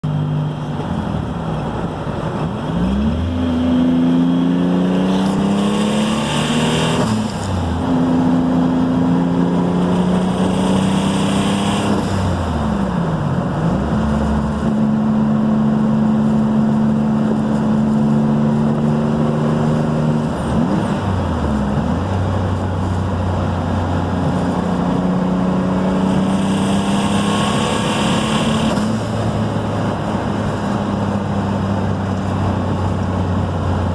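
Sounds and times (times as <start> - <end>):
car engine shifting gears: 0.0 - 33.9.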